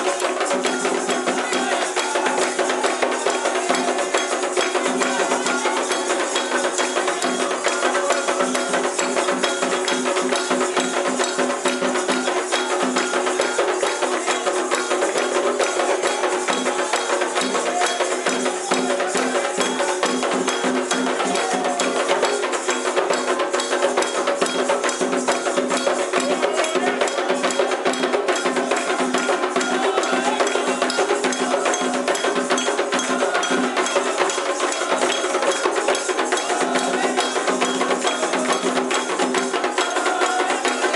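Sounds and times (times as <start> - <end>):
drums playing: 0.0 - 40.9.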